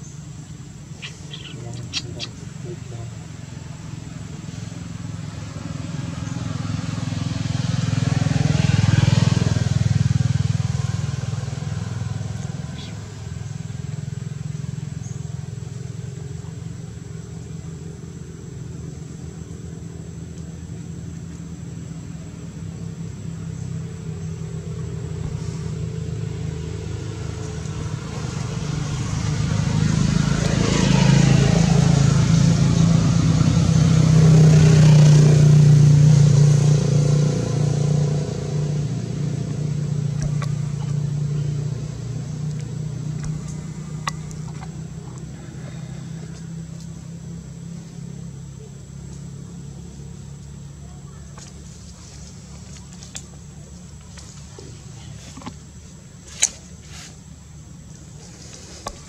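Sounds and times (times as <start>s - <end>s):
vehicle engine passing by: 0.0s - 59.0s.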